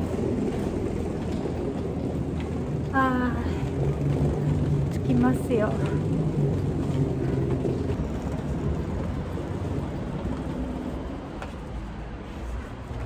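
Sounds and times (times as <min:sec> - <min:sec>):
low steady rumble: 0:00.0 - 0:11.3.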